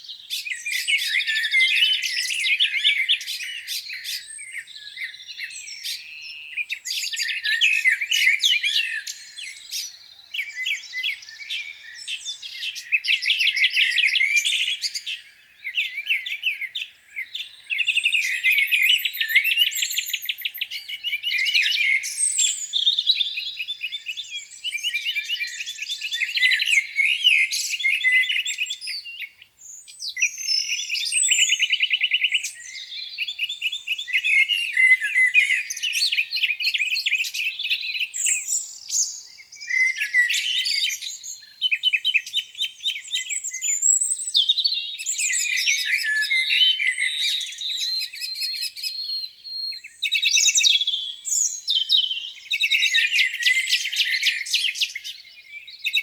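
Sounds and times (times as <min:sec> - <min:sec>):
songbirds dawn chorus: 0:00.0 - 0:56.0.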